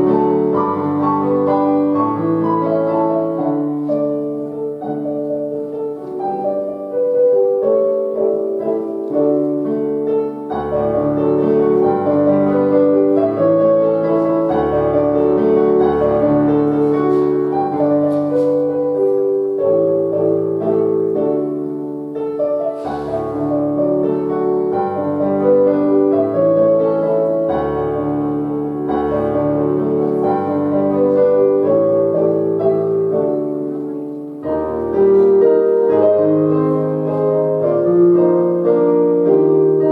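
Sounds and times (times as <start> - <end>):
piano chords: 0.0 - 39.9.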